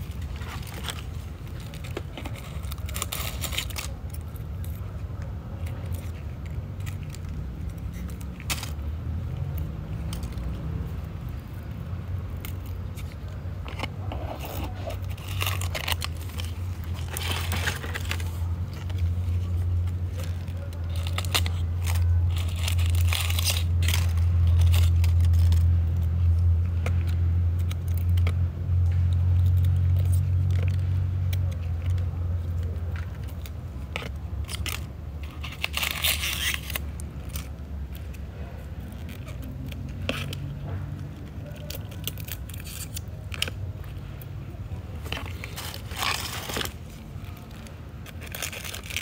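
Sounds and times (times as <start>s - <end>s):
dry leaves crackling and rustling: 0.0s - 49.0s.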